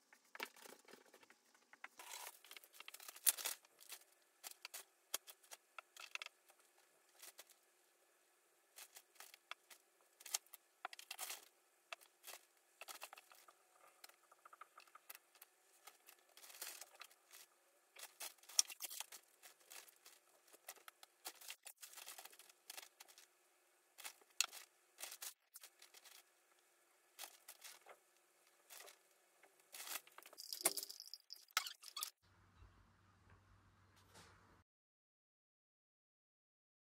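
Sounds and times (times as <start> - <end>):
crinkling and rustling handling: 0.0 - 31.1.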